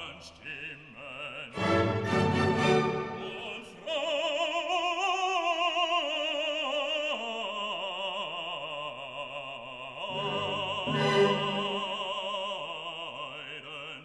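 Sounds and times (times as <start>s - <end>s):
operatic singing with classical accompaniment: 0.0s - 14.0s.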